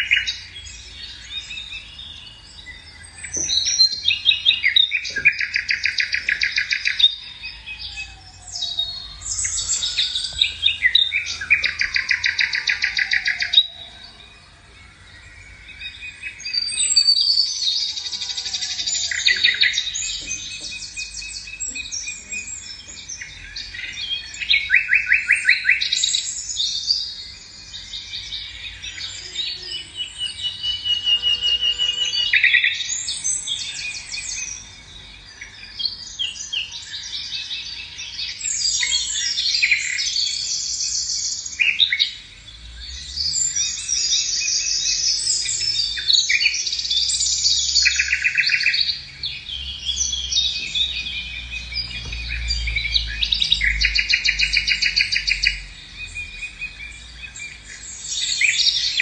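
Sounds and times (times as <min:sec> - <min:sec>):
songbirds chorus of trills: 0:00.0 - 0:59.0.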